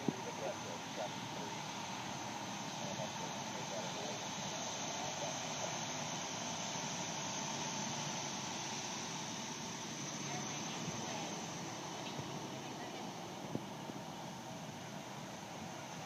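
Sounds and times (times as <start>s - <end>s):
steady high buzz: 0.0s - 16.0s
trucks engine and road noise: 0.0s - 16.0s.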